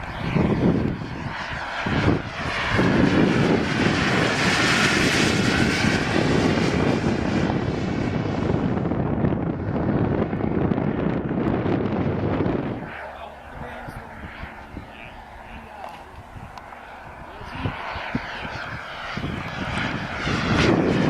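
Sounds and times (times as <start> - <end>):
model jet turbine engine: 0.0 - 21.0.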